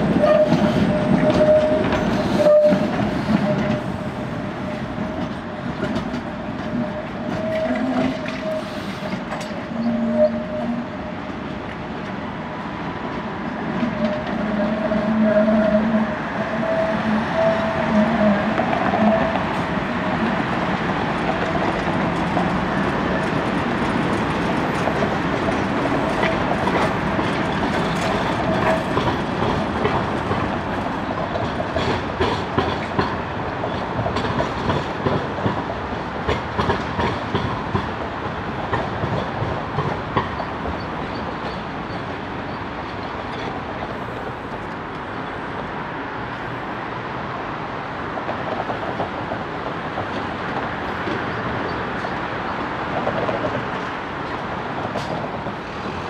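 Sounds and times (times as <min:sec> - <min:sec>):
tram wheels clacking over rail joints: 0:00.0 - 0:45.8, 0:48.1 - 0:56.0
tram whine: 0:00.0 - 0:56.0.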